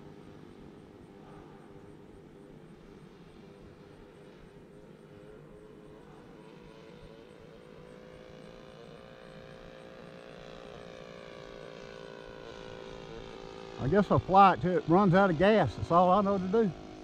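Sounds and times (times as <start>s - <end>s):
model airplane engine running: 0.0s - 17.0s.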